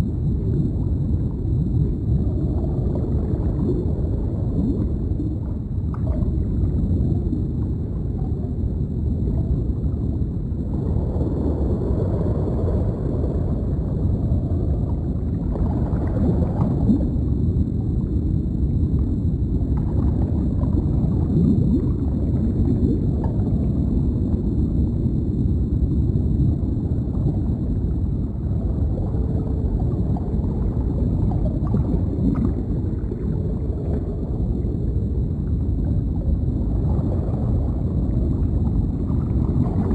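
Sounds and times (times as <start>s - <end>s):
faint high whine: 0.0s - 39.9s
underwater rumble: 0.0s - 39.9s
water bubbling and gurgling: 0.0s - 39.9s.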